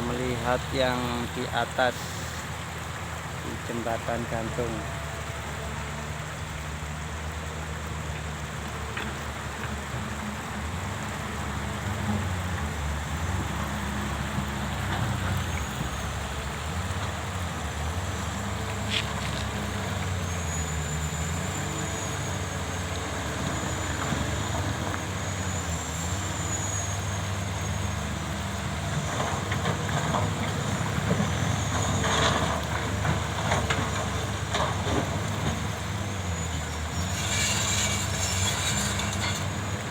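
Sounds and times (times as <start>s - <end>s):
excavator diesel engines: 0.0s - 39.9s.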